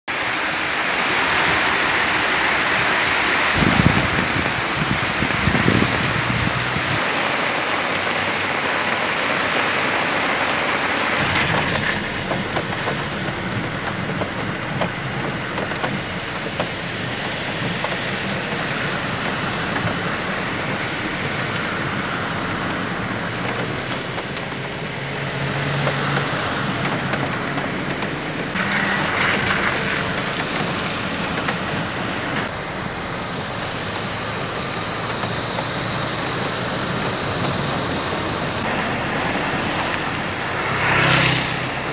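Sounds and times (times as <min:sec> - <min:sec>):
car engine: 0:00.1 - 0:41.9
car tyres splashing water: 0:00.1 - 0:41.9
floodwater rushing: 0:00.1 - 0:41.9
heavy rain: 0:00.1 - 0:41.9.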